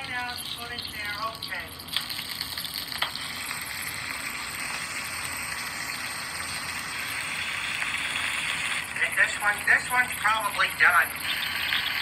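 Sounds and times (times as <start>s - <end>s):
sausages sizzling in a frying pan: 0.0s - 12.0s.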